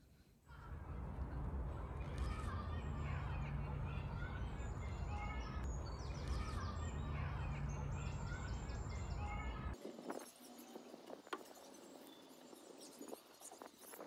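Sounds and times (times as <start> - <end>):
songbirds chirping and singing: 0.6 - 14.0.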